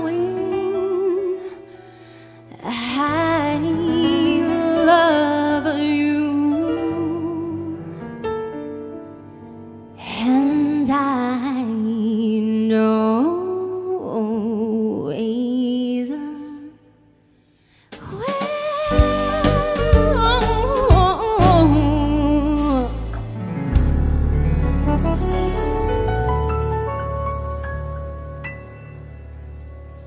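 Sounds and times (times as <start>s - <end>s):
soft musical accompaniment: 0.0s - 15.2s, 18.0s - 30.0s.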